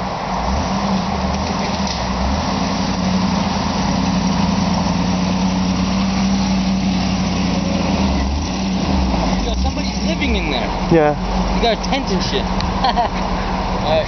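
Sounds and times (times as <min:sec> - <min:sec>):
engine running at low speed: 0:00.0 - 0:14.0.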